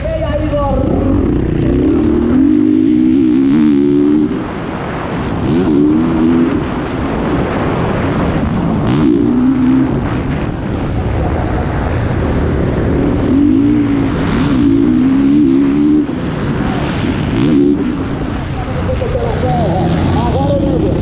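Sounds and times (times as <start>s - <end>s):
motocross bike engine: 0.0s - 21.0s.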